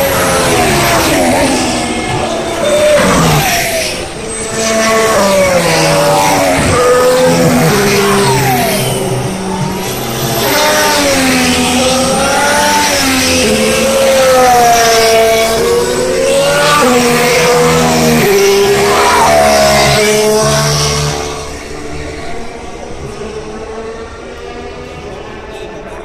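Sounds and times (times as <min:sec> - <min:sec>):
racing cars passing at speed: 0:00.0 - 0:26.0.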